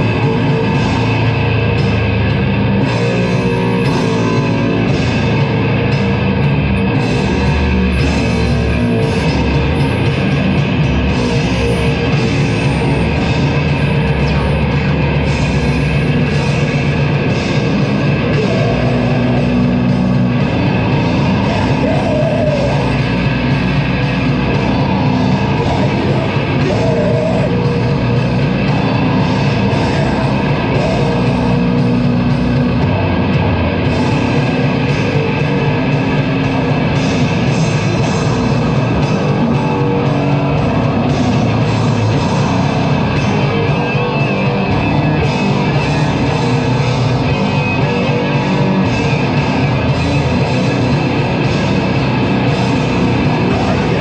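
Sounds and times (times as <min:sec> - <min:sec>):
heavy metal band playing: 0:00.0 - 0:54.0.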